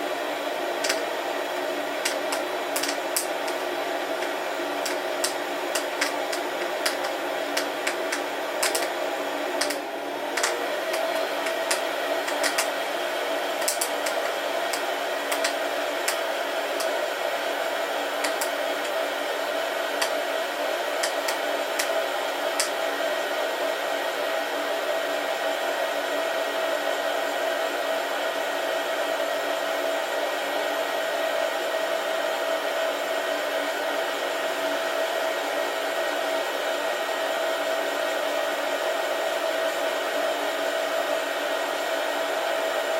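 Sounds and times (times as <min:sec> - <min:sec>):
coffee roaster blower humming: 0:00.0 - 0:42.9.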